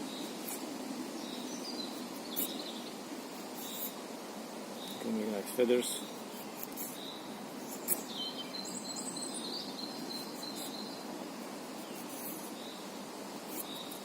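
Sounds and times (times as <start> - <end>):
birdsong chirps: 0.0 - 4.0, 4.7 - 14.0
steady background hiss: 0.0 - 14.0.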